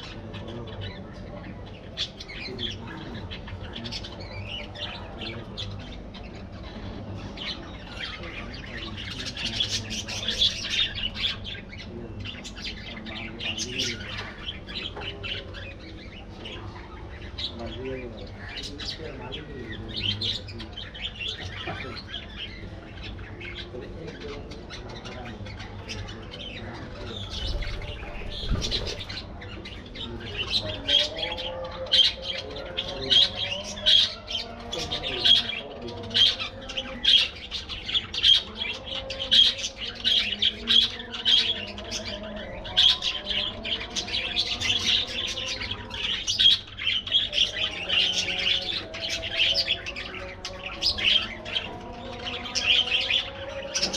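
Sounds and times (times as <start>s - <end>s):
budgerigars chattering: 0.0s - 53.9s.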